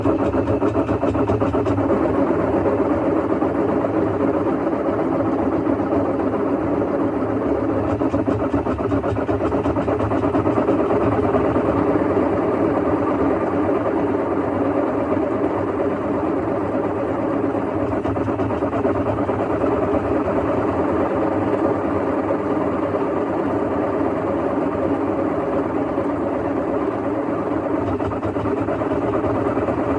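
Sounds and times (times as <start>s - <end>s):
washing machine rumbling roar: 0.0s - 29.9s.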